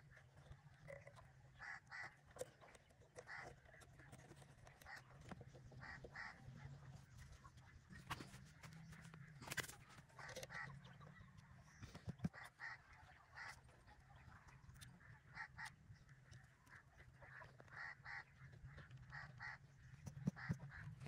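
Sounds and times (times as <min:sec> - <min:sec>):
faint birds calling: 0:00.0 - 0:21.0.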